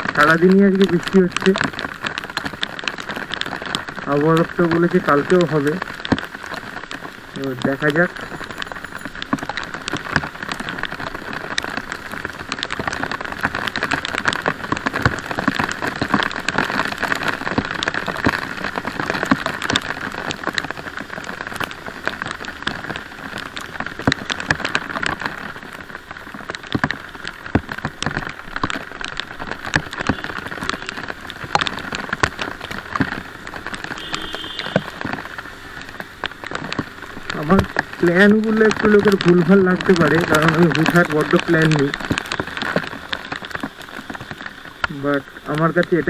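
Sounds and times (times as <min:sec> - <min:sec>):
heavy rain: 0:00.0 - 0:46.0
raindrops ticking on microphone: 0:00.0 - 0:46.0.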